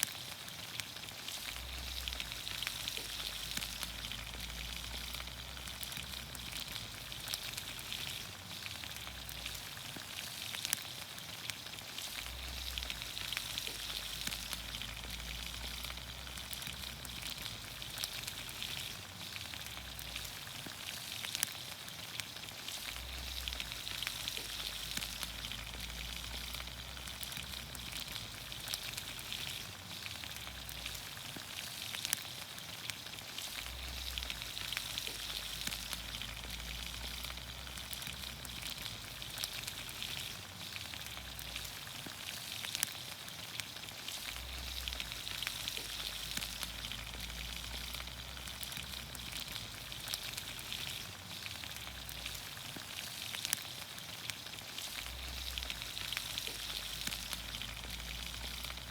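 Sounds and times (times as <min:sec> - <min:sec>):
vegetables sizzling in oil: 0:00.0 - 0:58.9.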